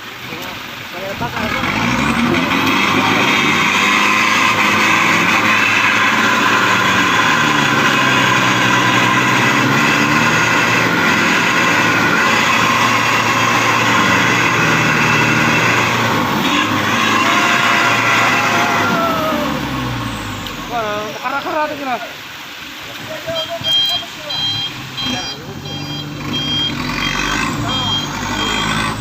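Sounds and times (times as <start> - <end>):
truck engine revving under load: 1.0 - 21.1, 24.1 - 29.0.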